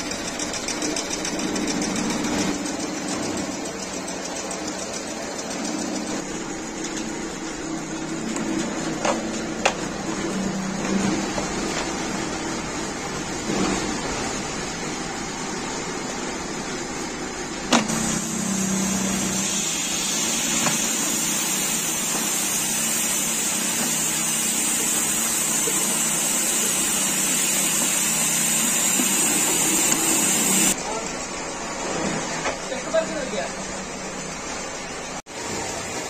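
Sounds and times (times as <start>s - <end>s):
moulding machine humming: 0.0s - 31.7s.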